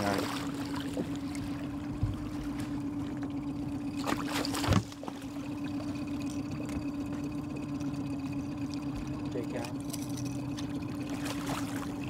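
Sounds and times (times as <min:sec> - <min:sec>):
outboard motor humming: 0:00.0 - 0:12.0
water rushing: 0:00.0 - 0:12.0.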